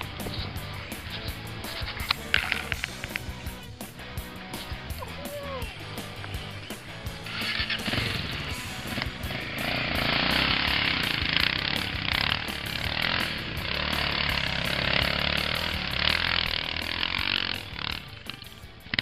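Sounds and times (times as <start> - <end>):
rear wheel spinning in sand: 0.0 - 3.6, 6.8 - 19.0
dirt bike engine at full throttle: 0.0 - 19.0.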